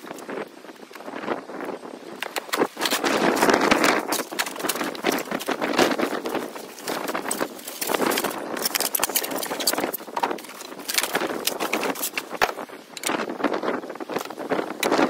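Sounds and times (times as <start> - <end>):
cardboard and foam rustling: 2.2 - 15.0.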